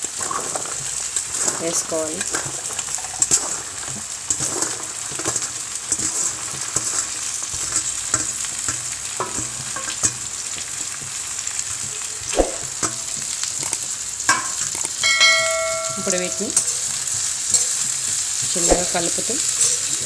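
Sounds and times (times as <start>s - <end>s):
okra sizzling in hot oil: 0.0s - 20.0s
spatula scraping and tapping: 0.0s - 20.0s.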